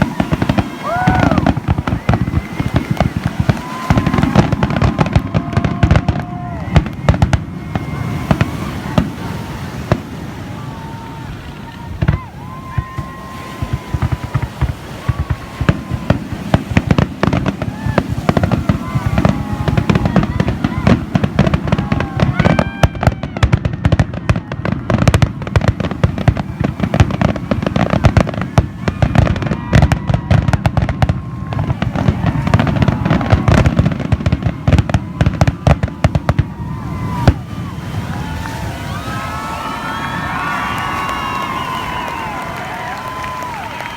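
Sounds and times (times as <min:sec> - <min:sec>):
fireworks bangs: 0:00.0 - 0:43.9
fireworks whistling: 0:00.0 - 0:43.9.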